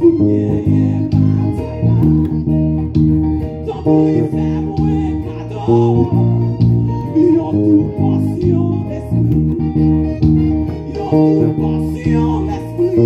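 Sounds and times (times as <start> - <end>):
electric bass guitar fingerstyle: 0.0 - 13.0.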